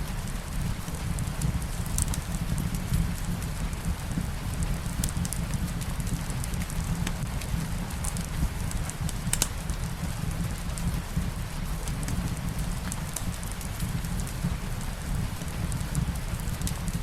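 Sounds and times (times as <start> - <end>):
soft rain: 0.0 - 17.0
wood fire crackling: 0.0 - 17.0.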